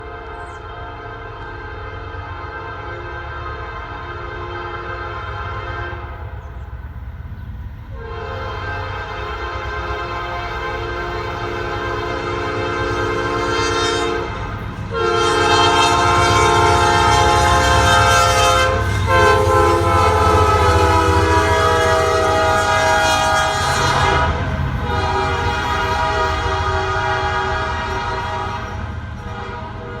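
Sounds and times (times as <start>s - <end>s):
locomotive air horn blasts: 0.0s - 6.3s, 7.9s - 30.0s
train rumbling: 0.0s - 30.0s.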